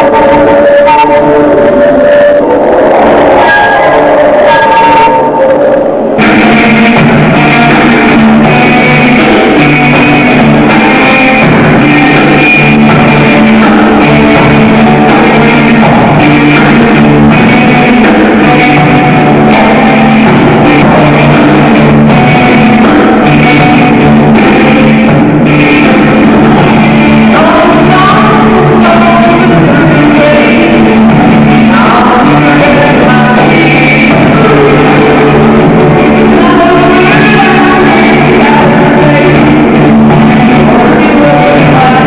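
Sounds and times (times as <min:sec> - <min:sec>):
rock music with guitar and drums: 0:00.0 - 0:42.0.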